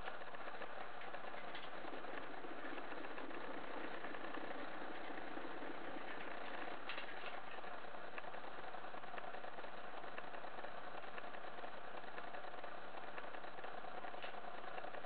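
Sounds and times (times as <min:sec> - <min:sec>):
exercise wheel whirring: 0:00.0 - 0:15.0.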